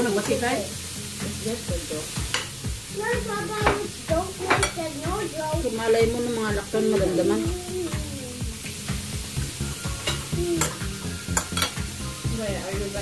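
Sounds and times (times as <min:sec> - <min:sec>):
faint music: 0:00.0 - 0:13.0.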